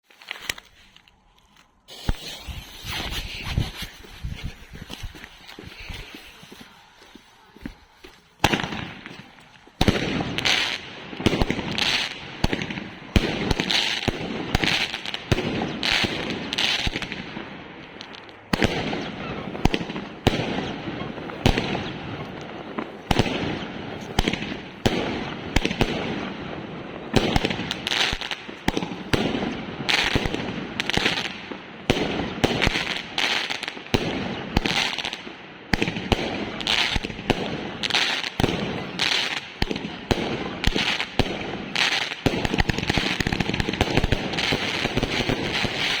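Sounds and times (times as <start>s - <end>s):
fireworks bangs and crackles: 1.9s - 46.0s.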